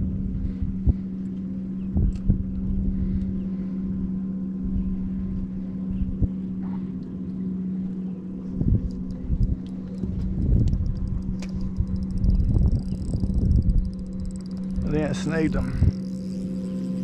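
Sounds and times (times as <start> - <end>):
outboard motor humming: 0.0 - 17.0.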